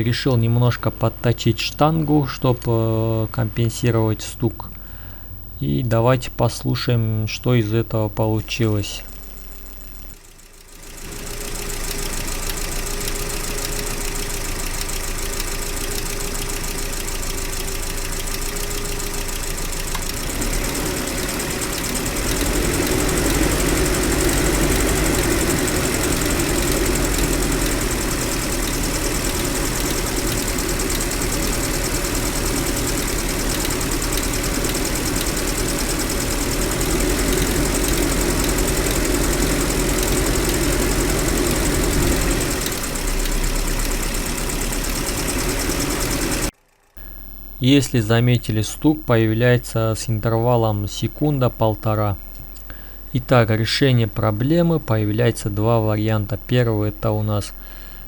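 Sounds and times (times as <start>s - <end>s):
petrol engine idling: 0.0s - 58.0s.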